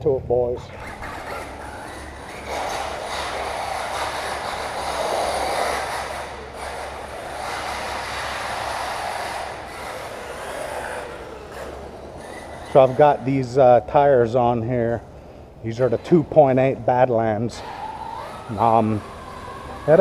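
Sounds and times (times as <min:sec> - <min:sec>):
electric motor whine: 0:00.7 - 0:15.1, 0:15.7 - 0:20.0.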